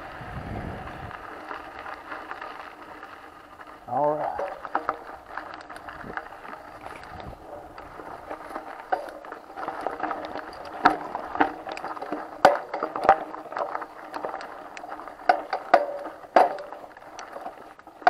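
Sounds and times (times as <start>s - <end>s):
bike rattling: 0.0s - 18.0s
bike tyres on gravel: 0.0s - 18.0s
clicks and knocks over stones: 1.1s - 18.0s.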